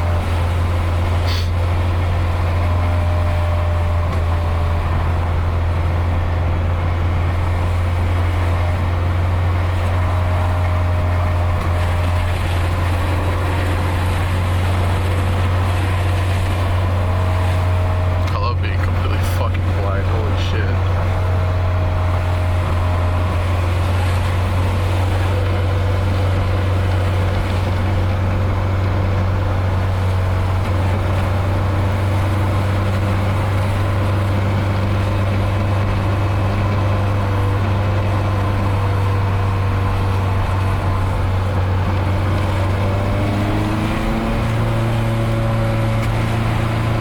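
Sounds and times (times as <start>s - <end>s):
car engine and exhaust droning: 0.0s - 47.0s.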